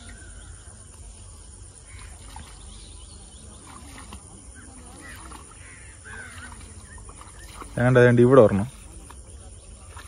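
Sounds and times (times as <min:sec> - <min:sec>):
faint distant voices: 0:00.0 - 0:10.0.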